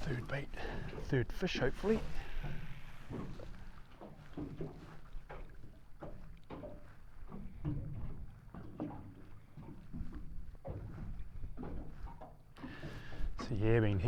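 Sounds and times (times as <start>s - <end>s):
water slapping against boat hull: 0.0s - 14.0s.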